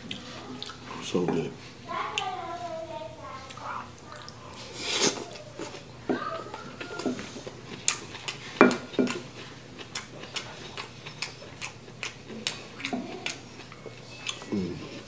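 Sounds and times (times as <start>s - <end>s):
wet chewing clicks: 0.0s - 0.9s, 3.3s - 15.0s.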